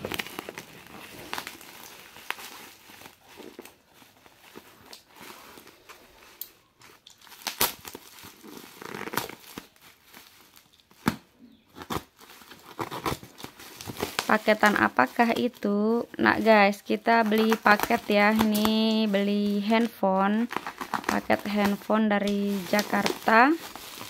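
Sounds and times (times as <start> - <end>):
plastic crinkling: 0.0 - 24.0.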